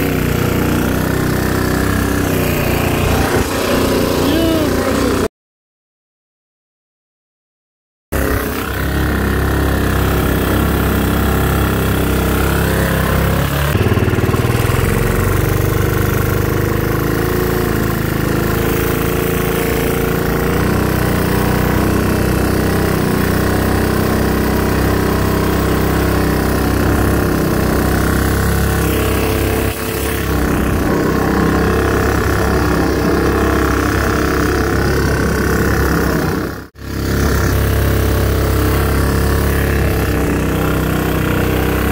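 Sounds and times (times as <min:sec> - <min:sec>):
boat motor running: 0:00.0 - 0:05.3, 0:08.2 - 0:41.9.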